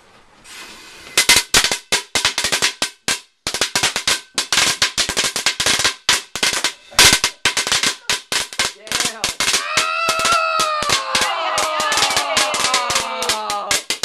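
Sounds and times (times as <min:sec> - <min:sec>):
firecracker fuse fizzing: 0:00.4 - 0:14.0
firecrackers cracking: 0:00.5 - 0:14.0.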